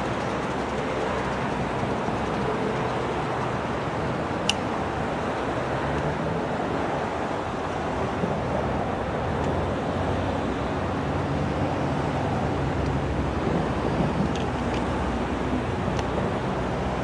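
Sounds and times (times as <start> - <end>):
cars crossing railroad crossing: 0.0 - 17.0.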